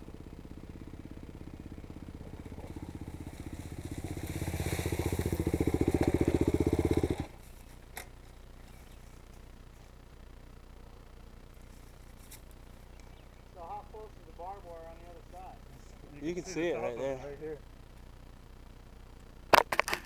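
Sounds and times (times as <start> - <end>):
dirt bike engine running: 0.0 - 20.0
faint low hum: 0.0 - 20.0.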